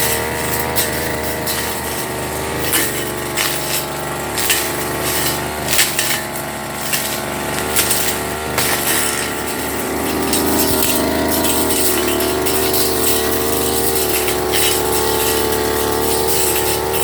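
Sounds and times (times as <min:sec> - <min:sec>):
brush cutter running: 0:00.0 - 0:17.0
cutting head striking debris: 0:00.0 - 0:17.0.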